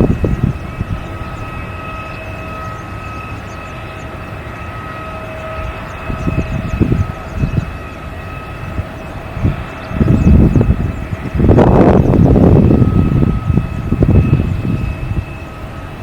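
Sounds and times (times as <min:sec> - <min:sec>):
deep rumble gusts: 0:00.0 - 0:04.0, 0:04.8 - 0:16.0
jet engines whining: 0:00.0 - 0:16.0.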